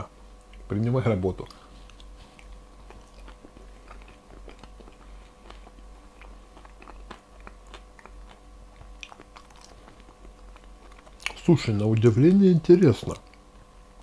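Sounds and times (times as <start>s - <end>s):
low hum: 0.0s - 14.0s
person chewing food: 1.4s - 12.1s, 13.1s - 14.0s.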